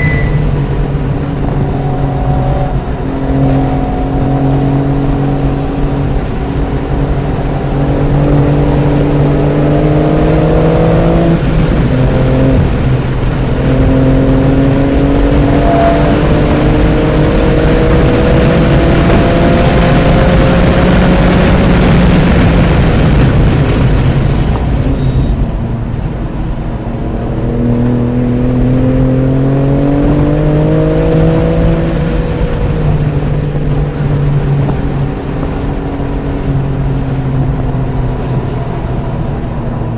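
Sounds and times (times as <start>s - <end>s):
car engine revving: 0.0s - 39.9s
wind noise: 0.0s - 39.9s.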